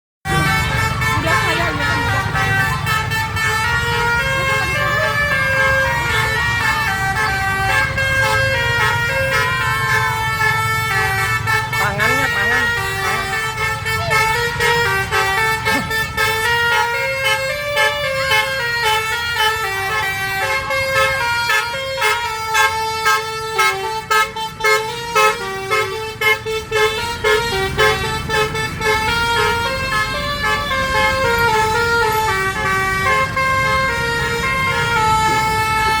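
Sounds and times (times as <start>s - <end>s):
low engine rumble: 0.2s - 36.0s
multi-tone bus horn tune: 0.2s - 36.0s.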